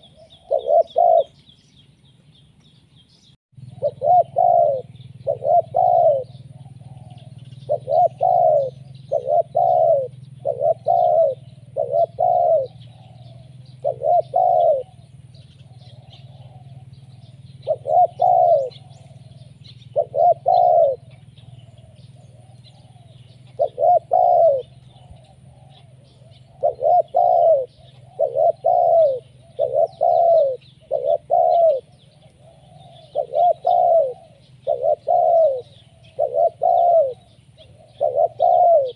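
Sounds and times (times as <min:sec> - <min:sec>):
dove cooing: 0:00.0 - 0:01.6, 0:03.6 - 0:38.9.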